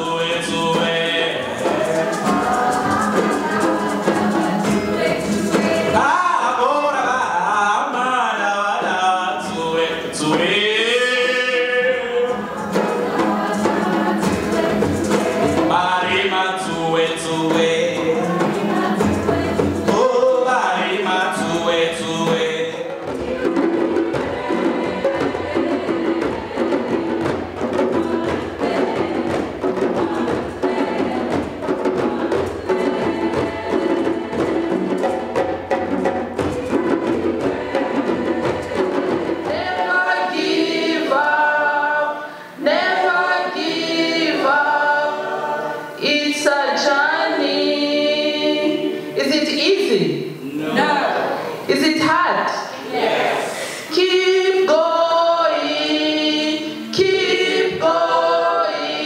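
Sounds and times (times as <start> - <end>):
mixed choir singing: 0.0 - 49.8, 50.4 - 59.0
djembe drumming: 0.0 - 59.0.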